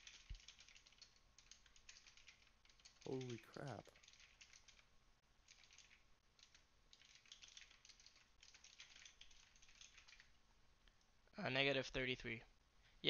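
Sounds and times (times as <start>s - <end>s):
faint keyboard typing: 0.0s - 11.2s.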